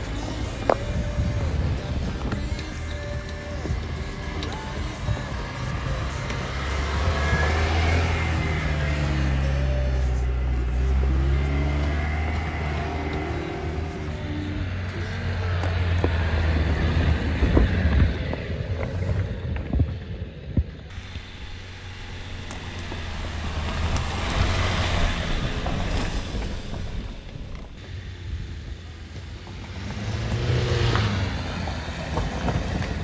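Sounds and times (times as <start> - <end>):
car engine pulling uphill: 0.0 - 33.0.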